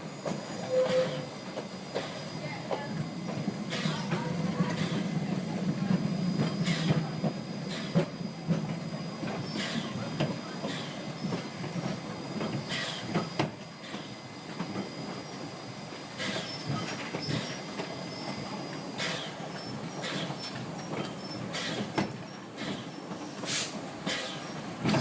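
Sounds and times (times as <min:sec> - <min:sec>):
steam train rumbling: 0:00.0 - 0:25.0.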